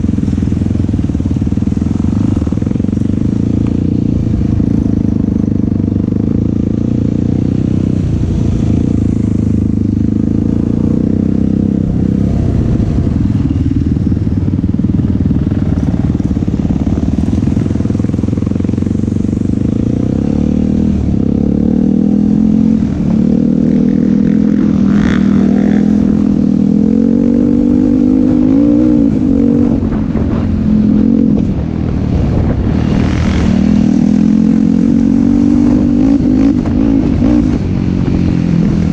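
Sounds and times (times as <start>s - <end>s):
quad bike engine revving: 0.0s - 13.8s, 14.4s - 38.9s.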